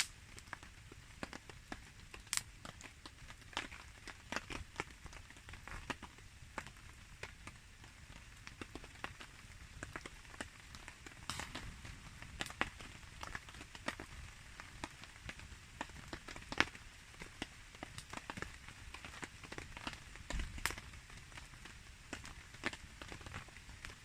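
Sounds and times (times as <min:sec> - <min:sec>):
campfire wood crackling: 0:00.0 - 0:24.0
rain falling: 0:00.0 - 0:24.0.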